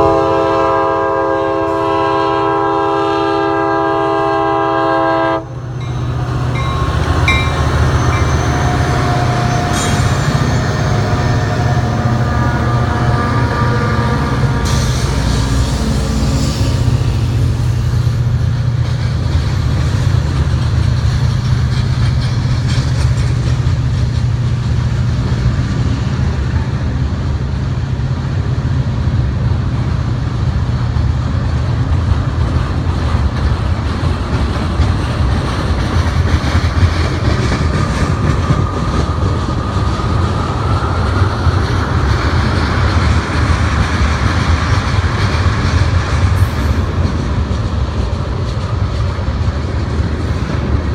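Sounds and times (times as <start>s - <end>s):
diesel locomotives labouring: 0.0s - 50.9s
train wheels clacking on rails: 3.6s - 50.9s.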